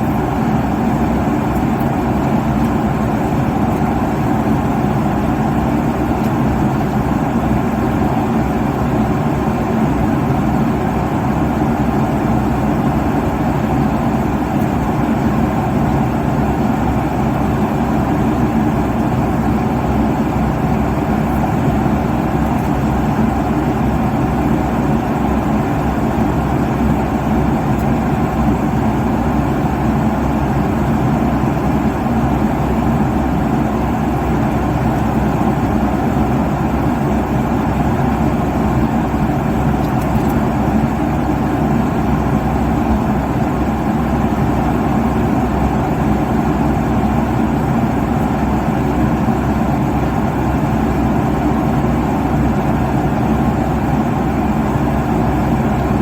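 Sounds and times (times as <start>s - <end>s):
jet airliner cabin drone: 0.0s - 56.0s.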